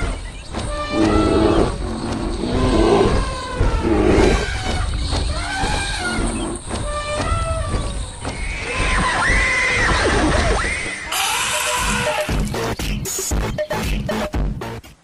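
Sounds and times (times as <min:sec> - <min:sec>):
animal roars and calls: 0:00.0 - 0:12.3.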